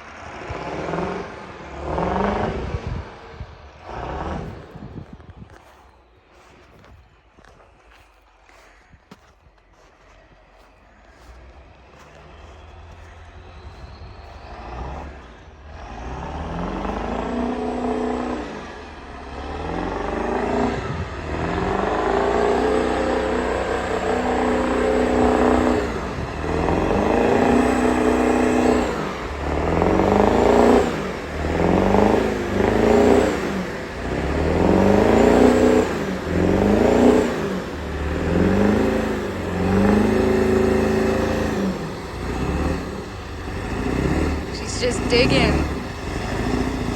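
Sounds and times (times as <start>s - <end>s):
diesel truck engine revving: 0.0s - 5.6s, 11.4s - 46.9s.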